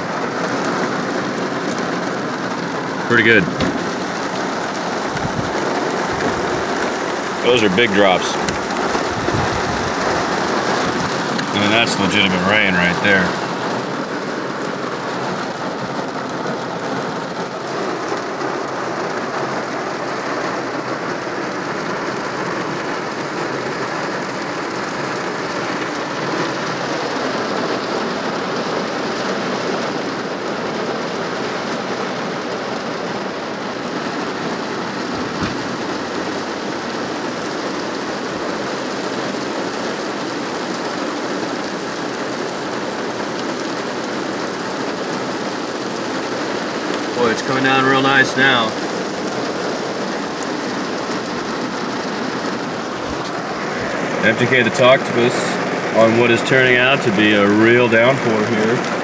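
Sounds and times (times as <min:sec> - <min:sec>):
heavy rain on car: 0:00.0 - 0:59.0.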